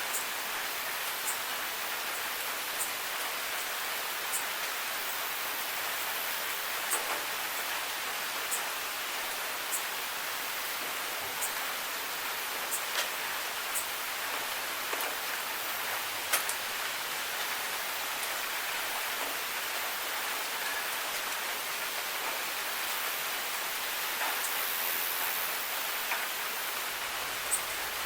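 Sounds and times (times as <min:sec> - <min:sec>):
rain hiss: 0:00.0 - 0:28.0.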